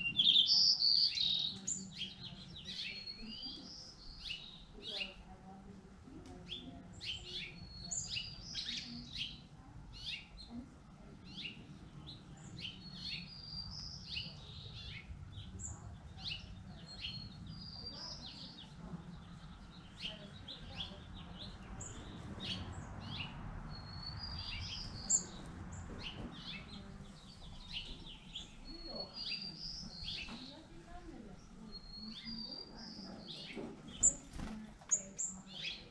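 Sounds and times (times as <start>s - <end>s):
songbirds chirping: 0.0s - 35.9s.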